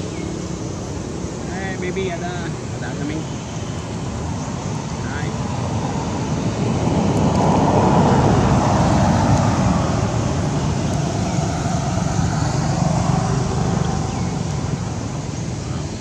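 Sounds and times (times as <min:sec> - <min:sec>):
rumbling road traffic: 0:00.0 - 0:16.0.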